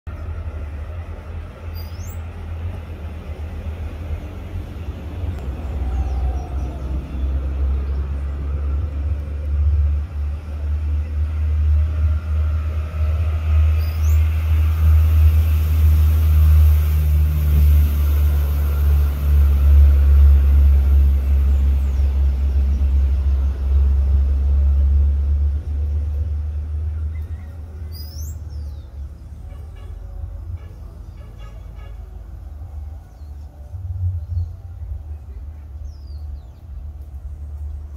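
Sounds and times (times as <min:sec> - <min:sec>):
loud low rumble: 0:00.1 - 0:37.9.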